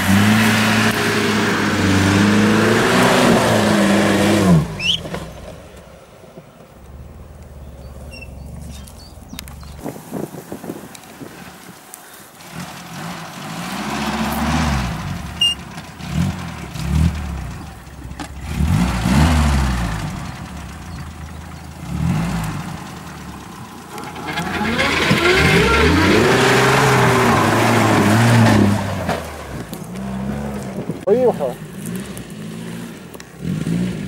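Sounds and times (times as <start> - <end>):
off-road vehicle engine revving: 0.0 - 5.8, 12.4 - 34.0.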